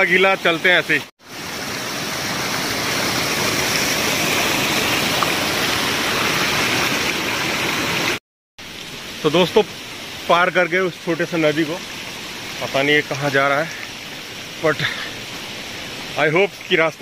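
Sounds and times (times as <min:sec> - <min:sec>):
stream rushing over stones: 0:00.0 - 0:17.0.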